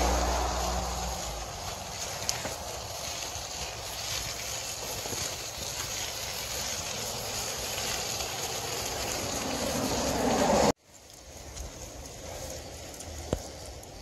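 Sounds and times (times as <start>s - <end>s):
bicycle tyres on dirt: 0.0s - 14.0s.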